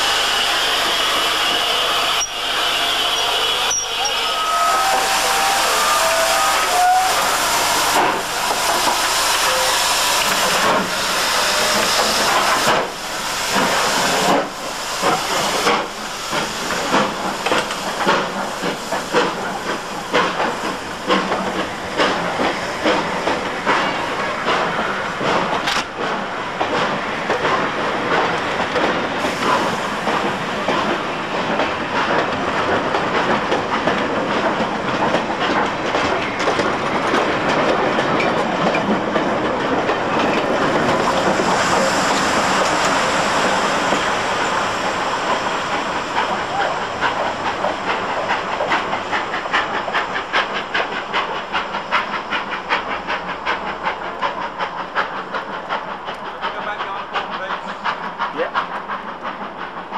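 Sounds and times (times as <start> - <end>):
steam hissing: 0.0 - 59.9
steam locomotive exhaust beats: 0.0 - 59.9
train wheels clicking over rail joints: 0.1 - 59.9.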